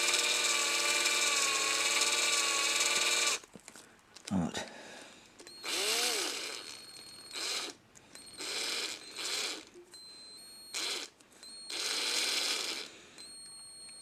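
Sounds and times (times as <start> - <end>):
drill motor spinning: 0.0 - 3.4, 5.5 - 13.3.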